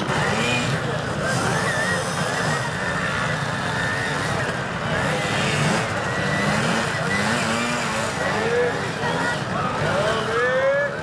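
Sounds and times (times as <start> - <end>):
motorcycle engines revving: 0.0 - 11.0
onlookers' voices: 0.0 - 11.0.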